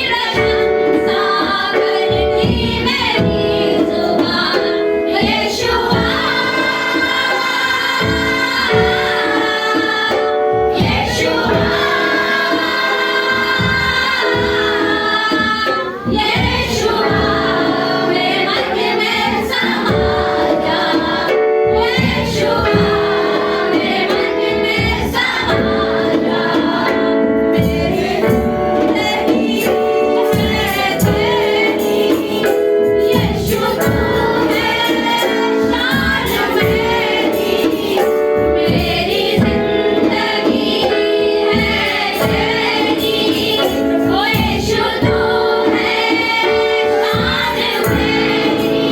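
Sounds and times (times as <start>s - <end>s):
congregation singing worship song: 0.0s - 48.9s
instrumental accompaniment: 0.0s - 48.9s
steady percussion beat: 0.0s - 48.9s.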